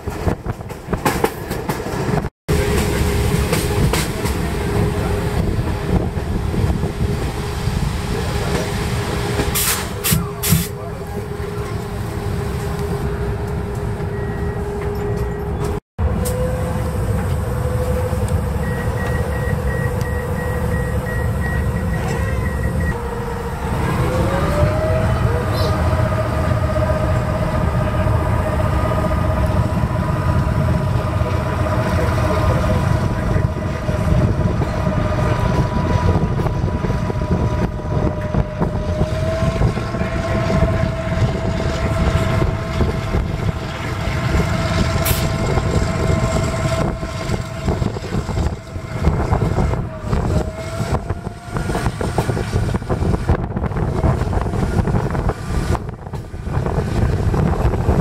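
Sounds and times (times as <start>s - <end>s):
diesel railcar rumble with whine: 0.0s - 58.0s.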